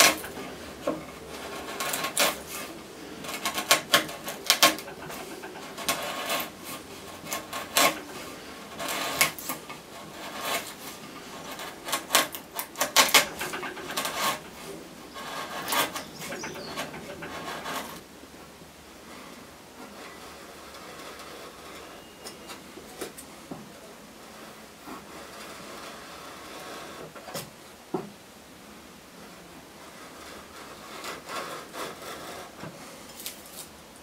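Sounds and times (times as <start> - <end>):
chisel slicing and scraping wood: 0.0 - 18.0, 19.1 - 23.6, 24.2 - 27.5, 29.8 - 33.8.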